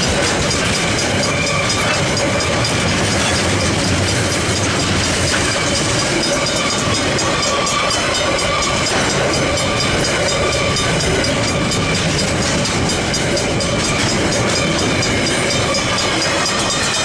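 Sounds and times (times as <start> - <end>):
freight train wheels clattering: 0.0 - 17.0
level crossing bells ringing: 0.0 - 17.0.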